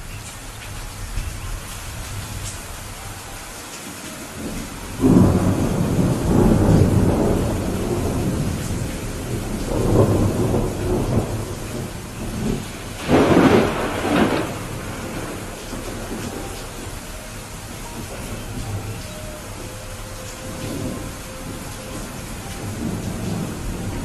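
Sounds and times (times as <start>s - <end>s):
steady rain: 0.0s - 24.0s
rolling thunder: 4.3s - 24.0s.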